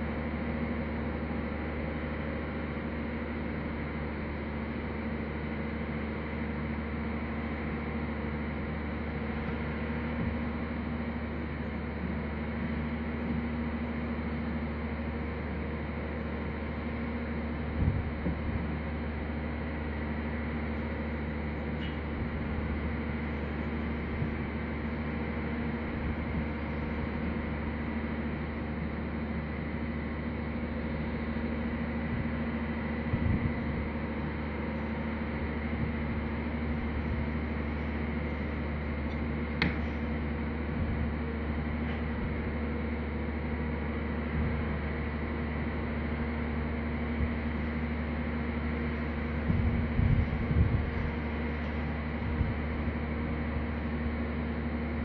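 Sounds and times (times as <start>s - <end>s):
mechanical hum with whine: 0.0s - 55.0s.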